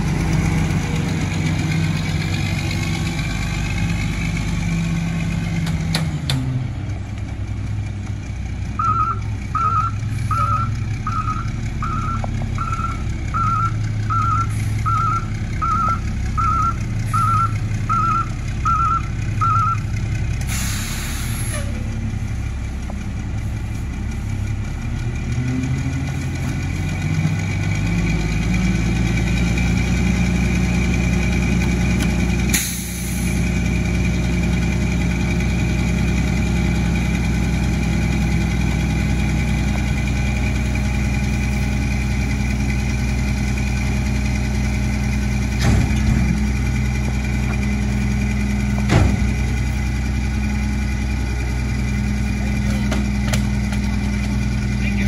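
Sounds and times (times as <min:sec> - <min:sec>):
truck engine revving up: 0:00.0 - 0:55.0.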